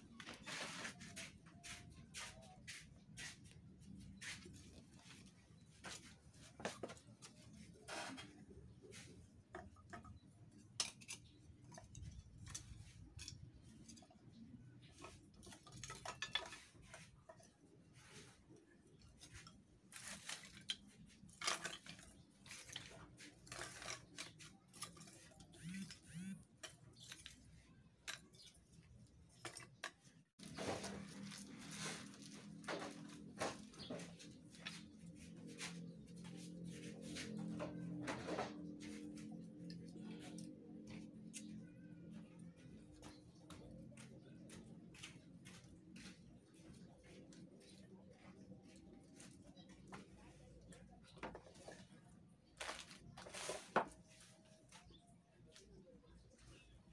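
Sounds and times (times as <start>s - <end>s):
wood and kindling being handled: 0.0s - 56.9s.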